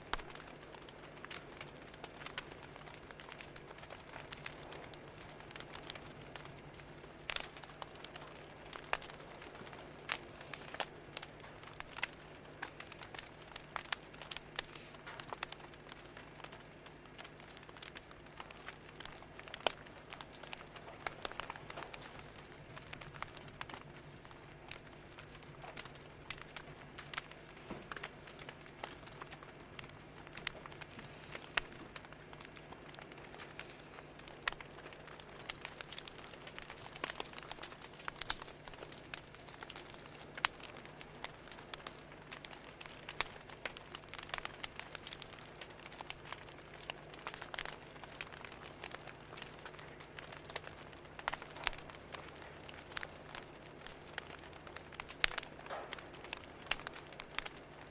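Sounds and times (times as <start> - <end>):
faint steady hum: 0.0 - 57.9
wood fire crackling: 0.0 - 57.9.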